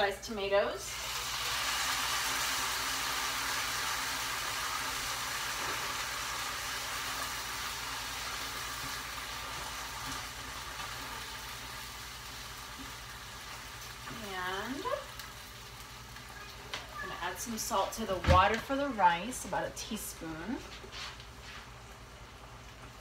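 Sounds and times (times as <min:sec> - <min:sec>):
tomatoes sizzling in hot oil: 0:00.0 - 0:20.5.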